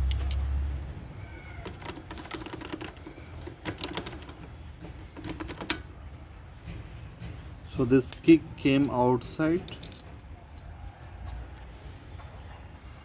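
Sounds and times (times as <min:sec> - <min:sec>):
hand tools clicking and tapping metal: 0:00.0 - 0:12.4.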